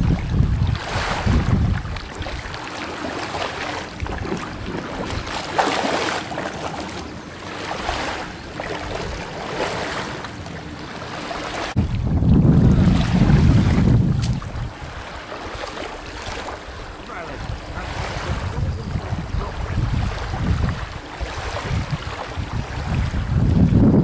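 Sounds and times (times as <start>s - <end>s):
wind gusting on microphone: 0.0s - 10.2s, 11.3s - 24.0s
small waves washing ashore: 0.0s - 23.8s.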